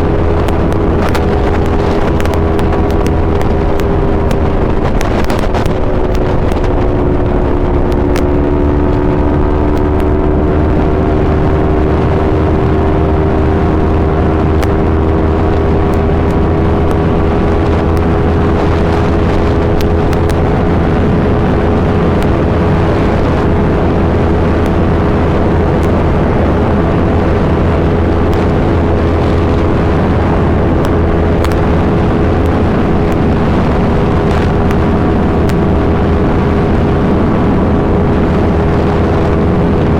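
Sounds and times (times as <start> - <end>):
motorcycle engine steady revs: 0.0 - 39.9.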